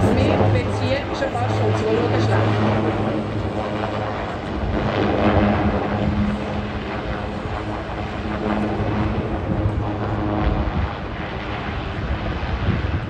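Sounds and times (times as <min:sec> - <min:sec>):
helicopter rotor and turbine noise: 0:00.0 - 0:13.0.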